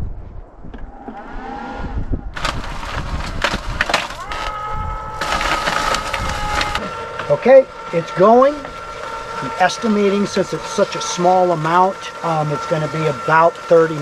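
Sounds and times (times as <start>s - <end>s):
motor whine: 2.3s - 14.0s
ice crackling and crunching: 2.4s - 14.0s.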